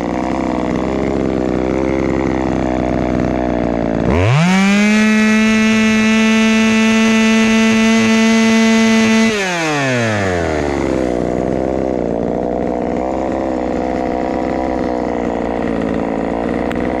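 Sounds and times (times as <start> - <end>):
chainsaw revving and idling: 0.0 - 17.0.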